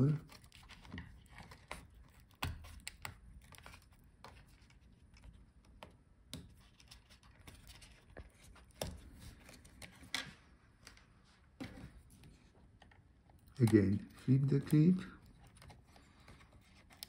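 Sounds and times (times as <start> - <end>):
faint clicks and scratches of cables: 0.0 - 17.0.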